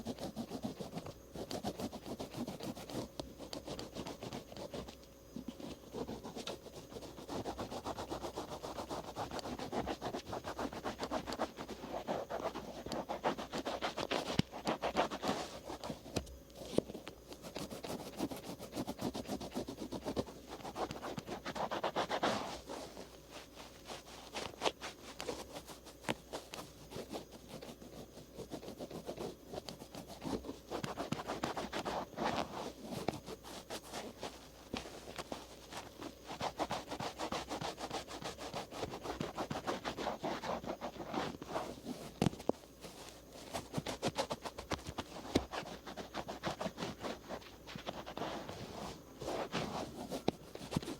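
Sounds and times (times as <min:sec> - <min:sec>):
cotton swabs scratching on ear: 0:00.0 - 0:50.9.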